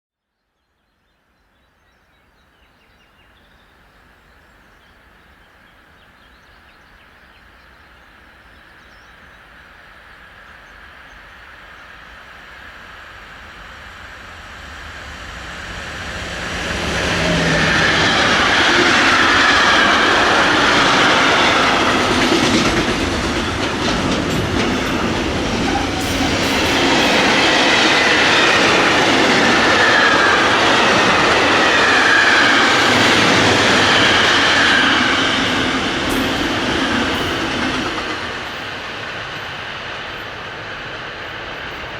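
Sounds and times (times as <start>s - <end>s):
train passing with wheels clattering: 3.0s - 41.9s.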